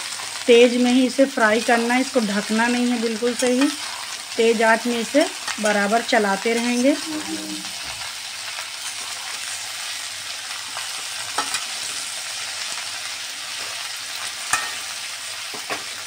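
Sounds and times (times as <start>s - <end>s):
okra sizzling in hot oil: 0.0s - 16.0s.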